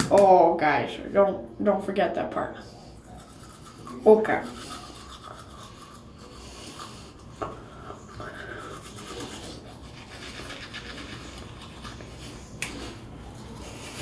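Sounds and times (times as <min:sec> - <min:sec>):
toothbrush scrubbing teeth: 0:02.6 - 0:14.0.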